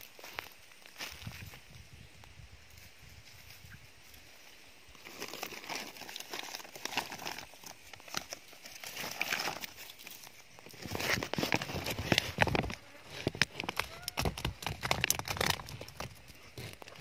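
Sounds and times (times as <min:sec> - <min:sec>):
dry leaves and twigs crunching: 0:00.0 - 0:17.0.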